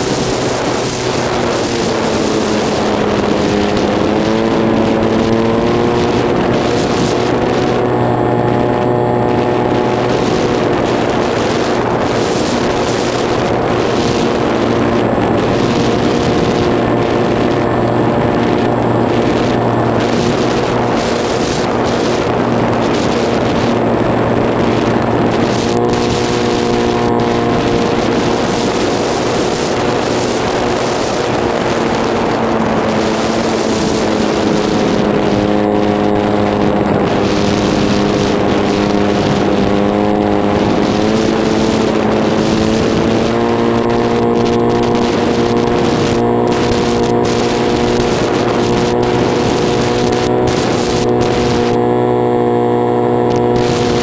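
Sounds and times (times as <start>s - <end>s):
electric motor and propeller whine: 0.0s - 54.0s
wind rushing: 0.0s - 54.0s.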